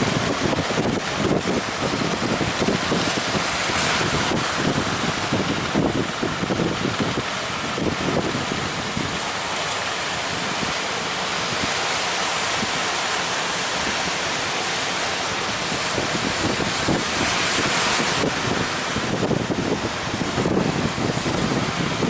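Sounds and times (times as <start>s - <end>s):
breaking surf: 0.0s - 22.0s
wind: 0.0s - 22.0s.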